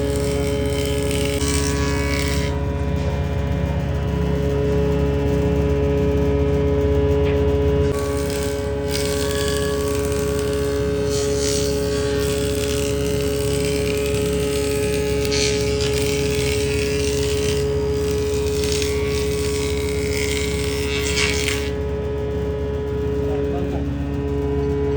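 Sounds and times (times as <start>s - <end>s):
machine motor humming: 0.0s - 24.9s.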